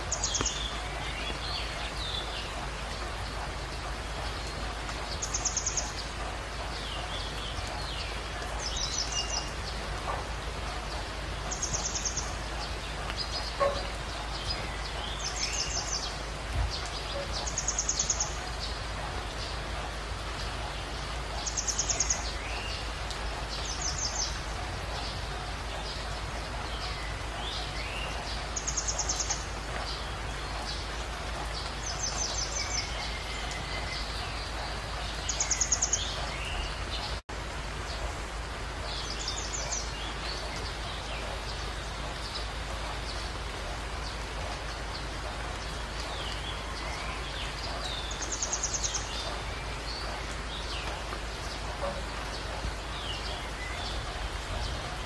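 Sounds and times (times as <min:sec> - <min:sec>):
background hiss: 0:00.0 - 0:55.0.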